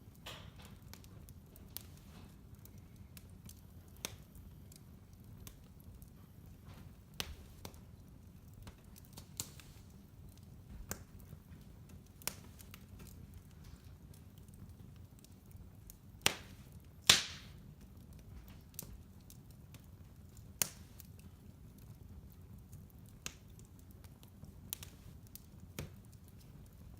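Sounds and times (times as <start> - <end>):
logs crackling and popping: 0.0 - 26.9
wood fire hissing: 0.0 - 26.9.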